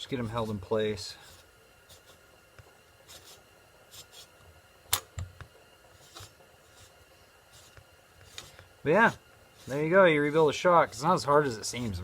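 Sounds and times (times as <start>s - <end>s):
soft handling noises: 0.0s - 12.0s.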